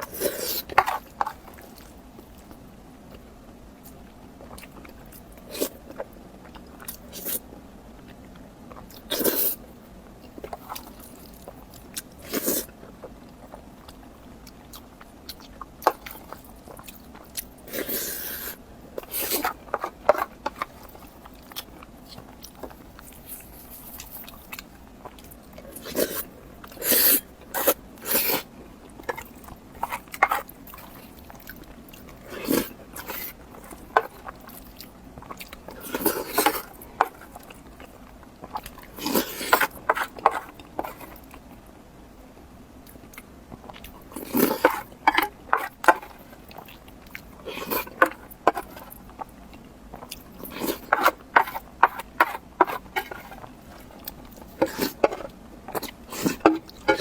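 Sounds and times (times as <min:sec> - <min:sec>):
close-miked chewing: 0:00.0 - 0:41.7, 0:42.8 - 0:57.0.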